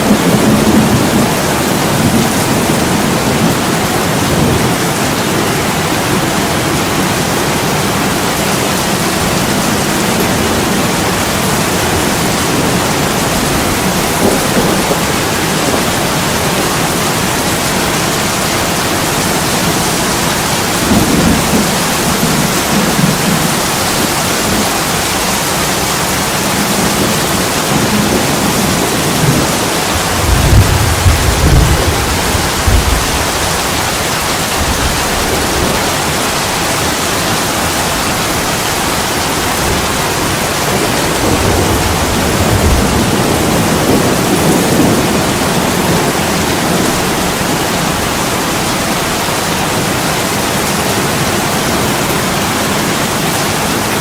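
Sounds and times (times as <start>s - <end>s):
low thunder rumbles: 0.0s - 48.8s
heavy rain on a window: 0.0s - 54.0s.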